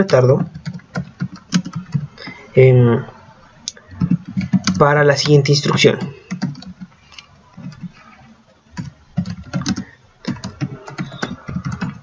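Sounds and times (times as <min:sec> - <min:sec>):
typing on computer keyboard: 0:00.0 - 0:02.1, 0:03.8 - 0:12.0.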